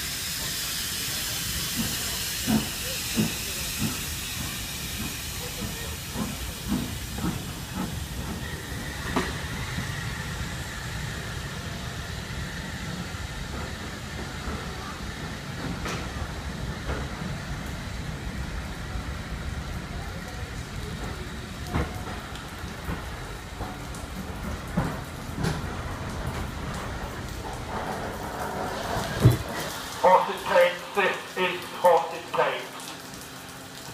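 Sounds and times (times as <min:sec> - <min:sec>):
wheels rumbling on rail: 0:00.0 - 0:33.9.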